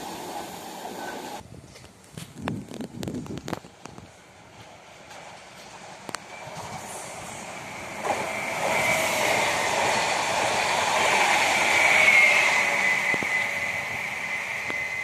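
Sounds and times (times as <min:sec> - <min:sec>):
passenger train passing: 0:00.0 - 0:01.5, 0:02.5 - 0:15.0.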